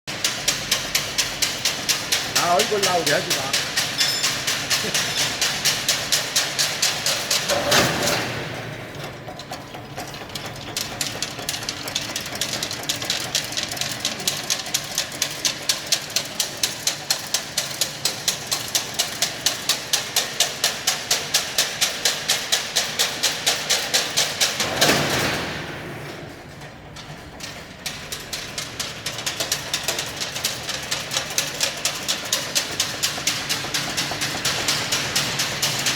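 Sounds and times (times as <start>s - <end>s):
weaving machine clacking: 0.1s - 35.9s.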